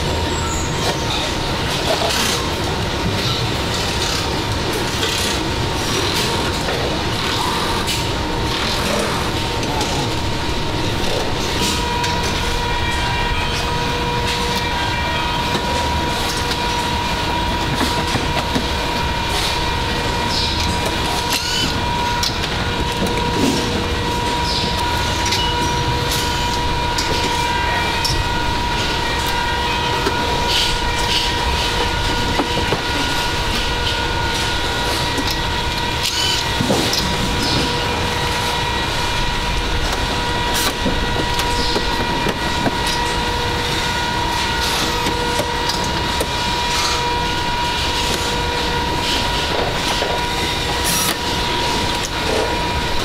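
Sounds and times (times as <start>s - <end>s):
high-pitched hum: 0.0s - 53.0s.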